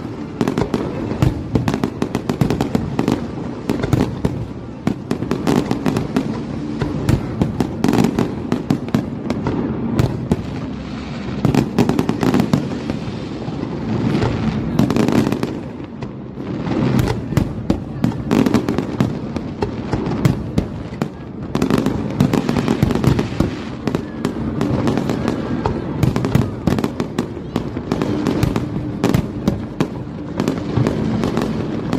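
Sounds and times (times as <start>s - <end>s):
fireworks bursting with bangs and crackle: 0.0s - 31.9s.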